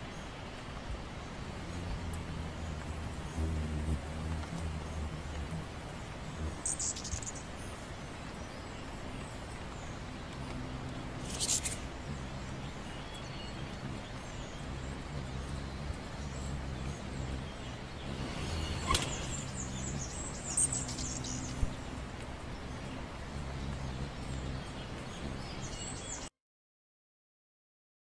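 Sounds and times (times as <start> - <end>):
birds chirping: 0.0 - 26.3
low steady hum: 0.0 - 26.3.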